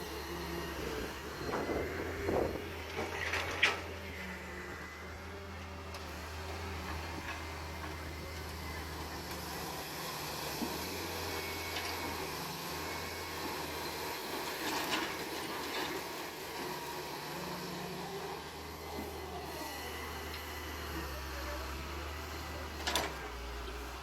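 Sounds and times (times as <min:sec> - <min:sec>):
digging machine engine running: 0:00.0 - 0:24.0.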